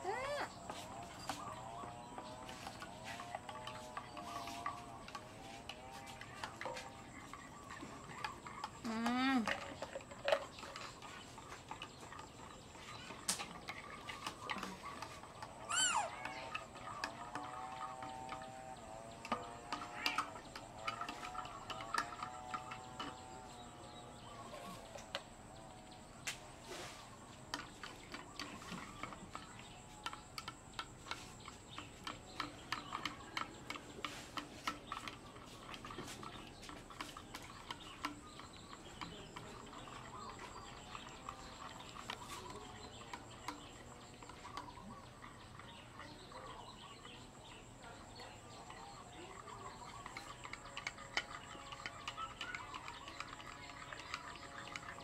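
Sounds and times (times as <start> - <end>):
faint chirping calls: 0.0 - 55.0
metal spoon stirring in plastic cup: 0.5 - 25.8, 26.7 - 55.0.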